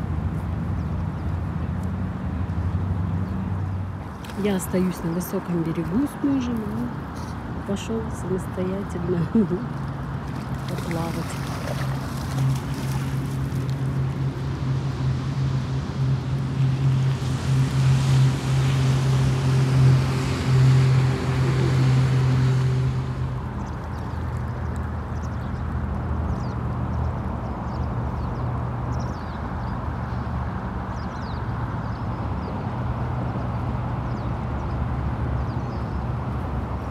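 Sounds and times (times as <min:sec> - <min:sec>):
motorboat engine humming: 0:00.8 - 0:36.9.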